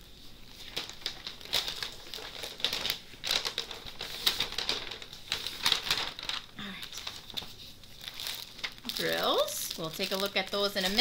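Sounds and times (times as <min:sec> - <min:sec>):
plastic cover crinkling: 0:00.0 - 0:11.0.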